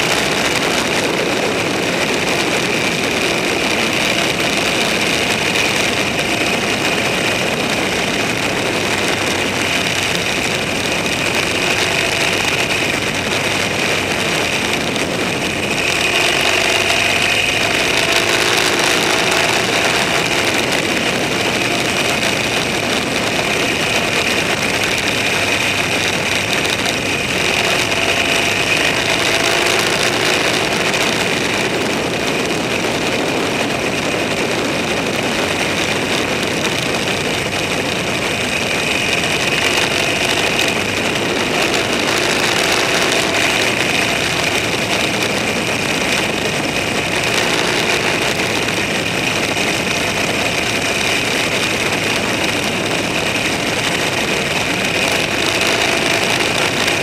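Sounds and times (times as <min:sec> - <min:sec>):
vehicle engine running: 0:00.0 - 0:57.0
wind and road noise: 0:00.0 - 0:57.0.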